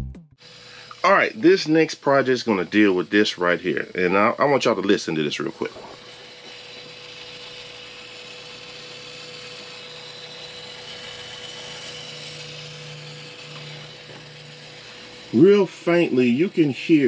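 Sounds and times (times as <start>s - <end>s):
cd motor whirring: 0.4s - 17.0s.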